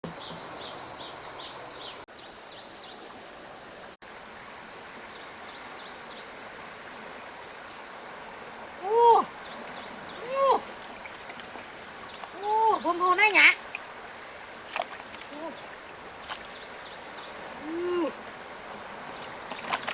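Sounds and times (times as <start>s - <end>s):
outdoor background noise: 0.0s - 19.9s.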